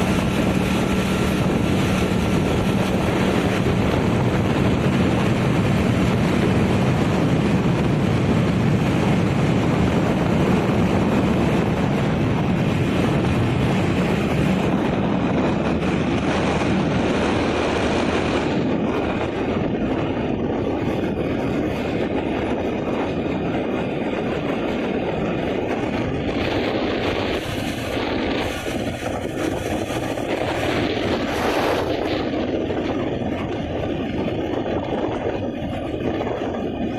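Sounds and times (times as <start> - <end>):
motorcycle road noise: 0.0 - 36.9
wind buffeting microphone: 0.0 - 36.9.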